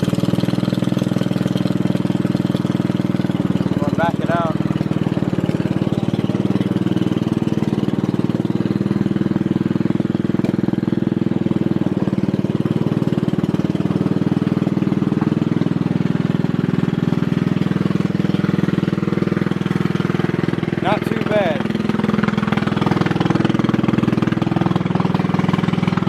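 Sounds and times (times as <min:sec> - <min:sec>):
riding lawn mower engine running: 0:00.0 - 0:26.0.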